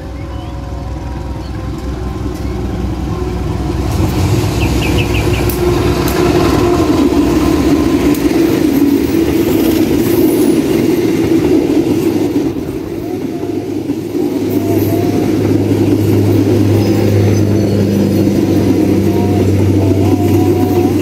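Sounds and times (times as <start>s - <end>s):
diesel locomotive engine: 0.0s - 21.0s
train wheels rumbling on rails: 0.0s - 21.0s.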